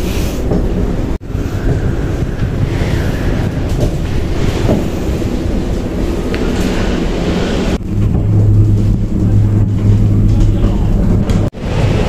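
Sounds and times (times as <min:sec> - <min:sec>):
cable car rumble: 0:00.0 - 0:12.0.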